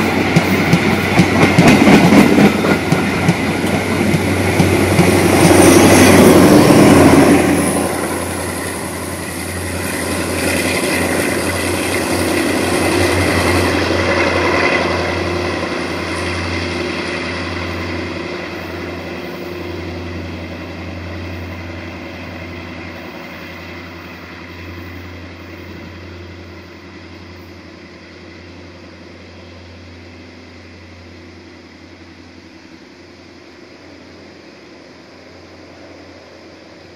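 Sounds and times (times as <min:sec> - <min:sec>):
locomotive diesel engine: 0:00.0 - 0:36.9.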